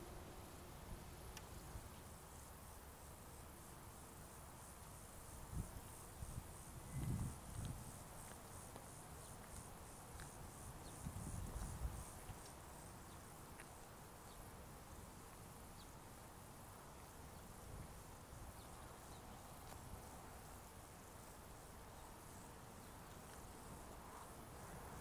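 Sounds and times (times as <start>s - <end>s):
insects chirping in grass: 0.0s - 25.0s.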